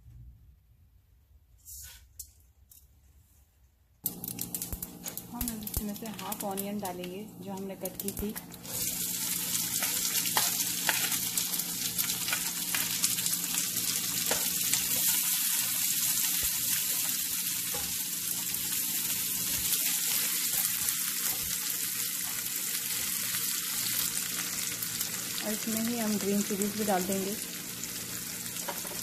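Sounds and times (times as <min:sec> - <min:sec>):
onions sizzling in hot oil: 0:04.0 - 0:29.0.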